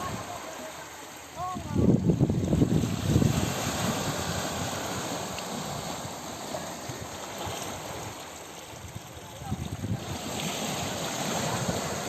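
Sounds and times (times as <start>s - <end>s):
sea waves rushing: 0.0s - 12.0s
wind on microphone: 1.4s - 12.0s.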